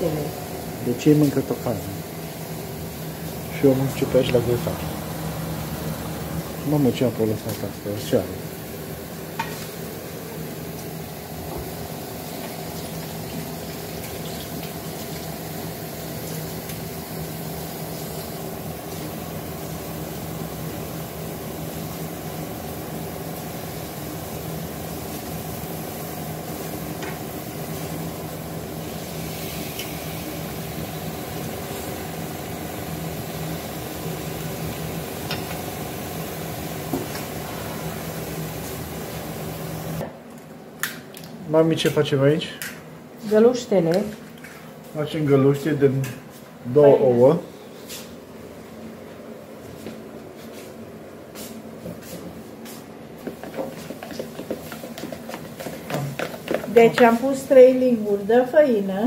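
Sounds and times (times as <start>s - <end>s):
stew simmering with hiss: 0.0s - 40.1s, 51.2s - 59.0s
steady low hum: 0.0s - 59.0s.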